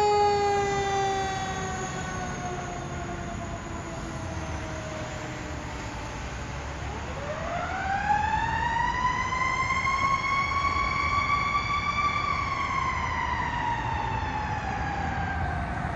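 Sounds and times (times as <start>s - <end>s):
fire engine siren wailing: 0.0s - 15.9s.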